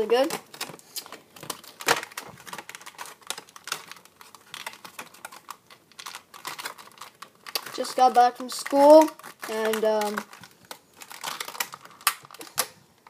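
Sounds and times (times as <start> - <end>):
plastic toy packaging clicks: 0.1 - 12.8.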